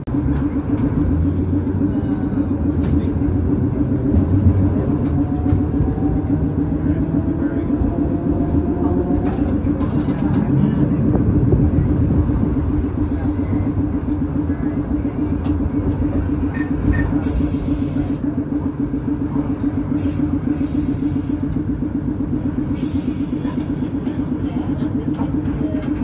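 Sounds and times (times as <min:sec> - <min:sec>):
streetcar rumbling on tracks: 0:00.0 - 0:26.0.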